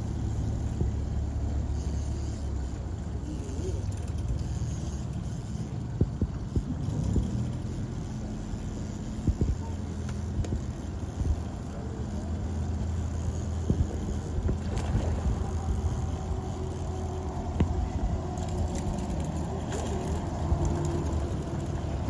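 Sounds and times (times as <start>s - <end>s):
outboard motor idling: 0.0s - 22.0s.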